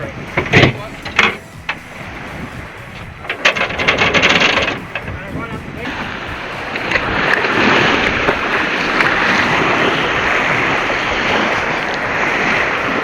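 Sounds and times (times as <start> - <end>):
water rushing: 0.0 - 13.0
wind: 0.0 - 13.0.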